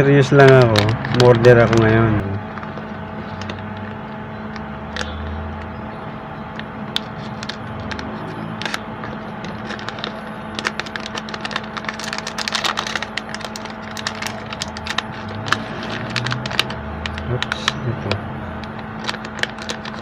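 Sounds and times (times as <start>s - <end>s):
plastic packaging crackling: 0.0s - 5.8s, 6.5s - 20.0s
low electrical hum: 0.0s - 20.0s.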